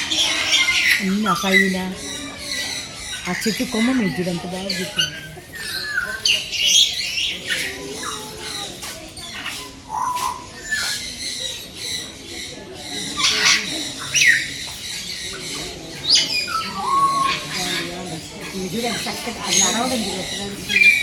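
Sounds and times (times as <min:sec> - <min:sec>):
caged birds chattering and squawking: 0:00.0 - 0:21.0.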